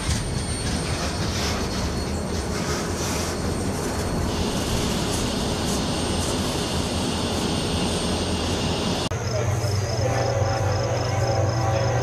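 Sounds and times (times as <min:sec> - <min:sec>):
train rumbling along tracks: 0:00.0 - 0:12.0.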